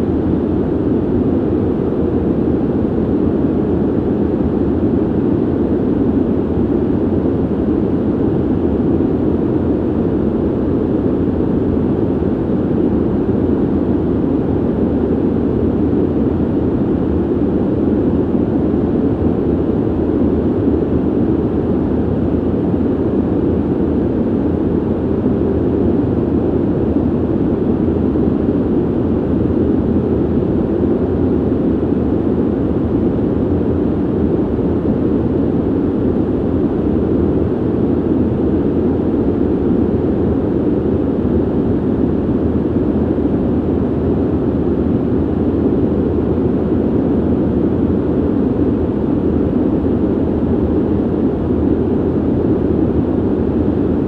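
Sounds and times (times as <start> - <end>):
low ventilation noise: 0.0 - 54.0.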